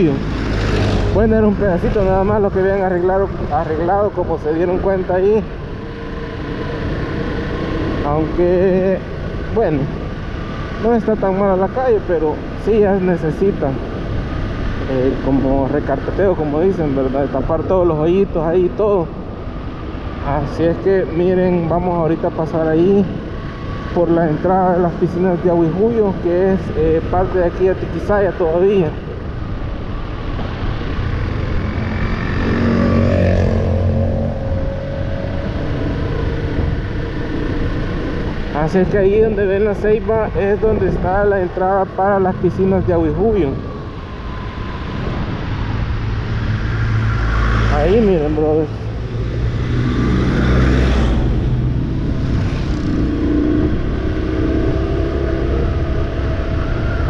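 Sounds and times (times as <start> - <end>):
wind rumble: 0.0 - 57.0.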